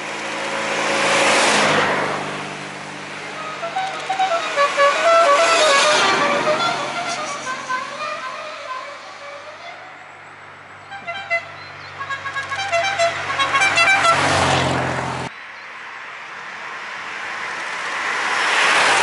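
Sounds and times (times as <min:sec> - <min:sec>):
car approaching: 0:00.0 - 0:19.0.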